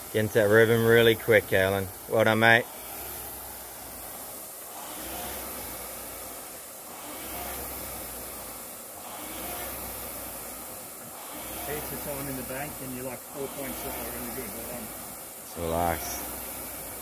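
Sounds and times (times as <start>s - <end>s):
rowing machine fan whooshing: 0.0s - 17.0s.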